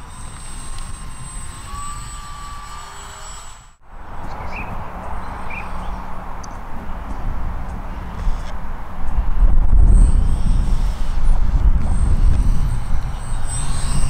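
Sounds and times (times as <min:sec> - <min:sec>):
model jet fan whining: 0:00.0 - 0:14.0.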